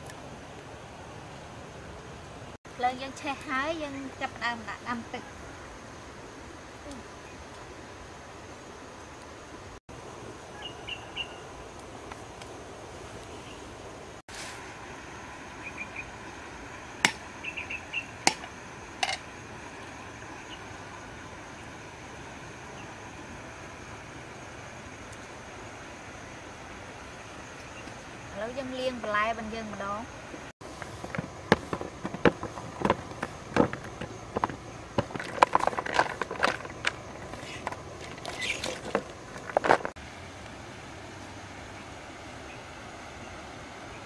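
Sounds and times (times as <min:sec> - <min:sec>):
background hiss: 0:00.0 - 0:44.0.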